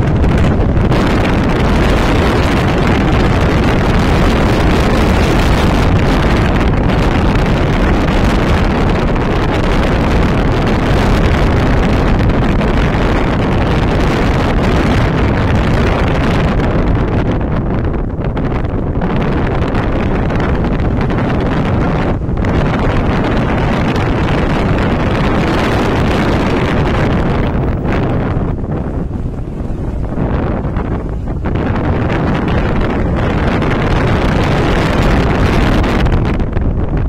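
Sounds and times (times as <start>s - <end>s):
car engine: 0.0s - 37.0s
tyre road noise: 0.0s - 37.0s
wind rushing over microphone: 0.0s - 37.0s.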